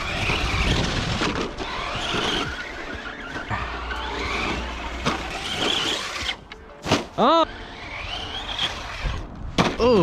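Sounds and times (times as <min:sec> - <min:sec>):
electric motor whining: 0:00.0 - 0:06.7, 0:07.4 - 0:09.3
tyres scrabbling over dirt: 0:00.0 - 0:10.0.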